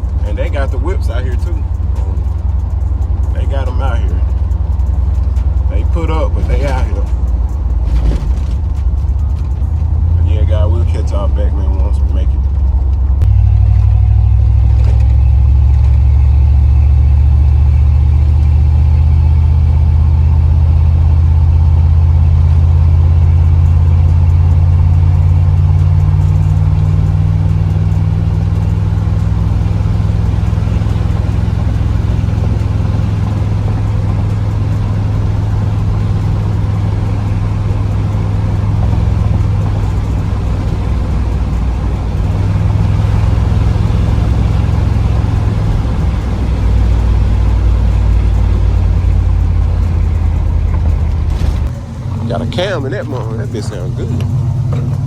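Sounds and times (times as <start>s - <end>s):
car engine and exhaust droning: 0.0s - 55.0s.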